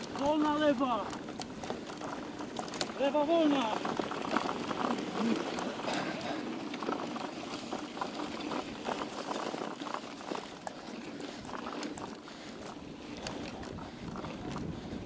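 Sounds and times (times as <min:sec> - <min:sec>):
bike clicks and rattles: 0:00.0 - 0:15.0
tyre noise on loose dirt: 0:00.0 - 0:15.0.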